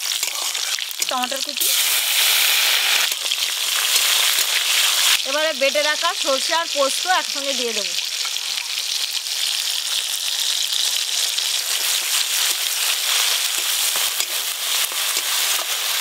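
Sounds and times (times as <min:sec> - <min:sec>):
paste sizzling in hot oil: 0:00.0 - 0:16.0.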